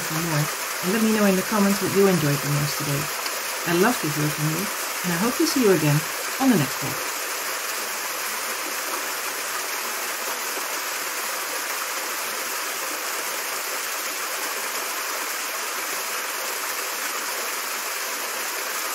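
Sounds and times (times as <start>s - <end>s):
water cascading over rocks: 0.0s - 18.9s.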